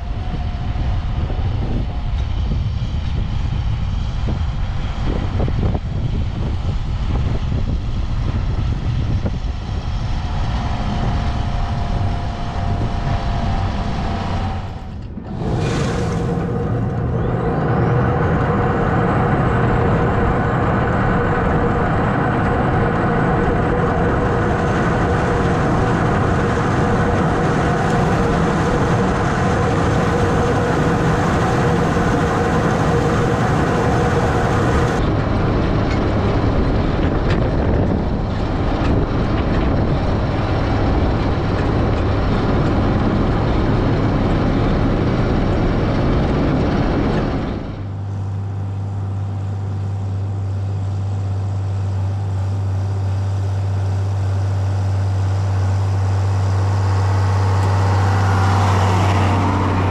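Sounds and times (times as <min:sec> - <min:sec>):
low engine hum: 0:00.0 - 0:59.9
tractor engine running: 0:00.0 - 0:59.9.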